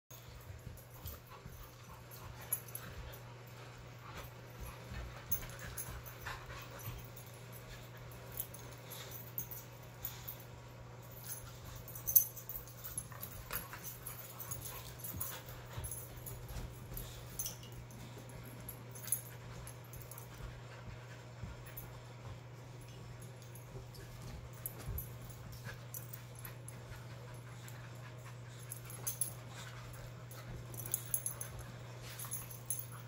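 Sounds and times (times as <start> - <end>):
steady low hum: 0.1 - 33.0.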